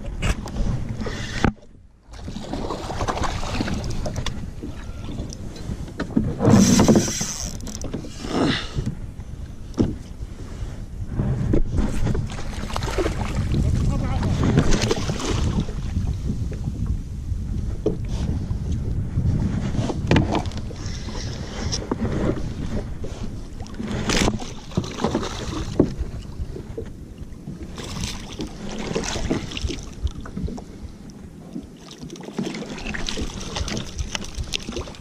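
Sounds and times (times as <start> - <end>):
wind rumbling on microphone: 0.0 - 35.0.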